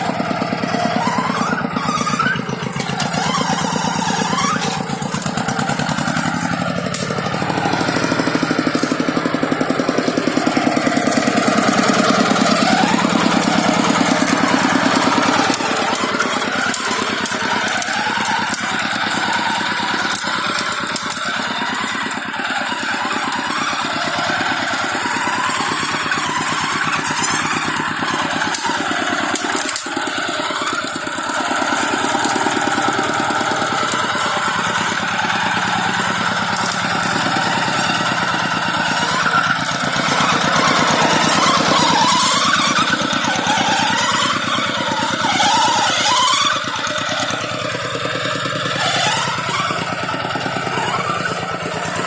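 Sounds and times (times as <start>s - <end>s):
tractor engine chugging: 0.0s - 52.0s.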